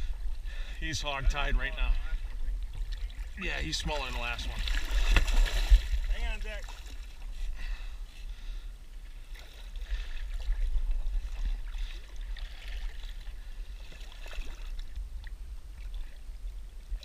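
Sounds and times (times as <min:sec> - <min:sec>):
water sloshing against boat: 0:00.0 - 0:17.0.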